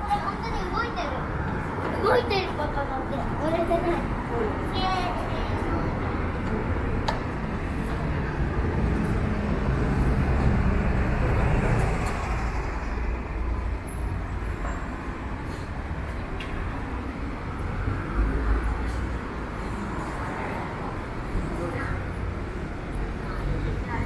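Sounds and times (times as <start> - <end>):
street noise hum: 0.0 - 24.0
vehicle engine rumble: 0.0 - 24.0.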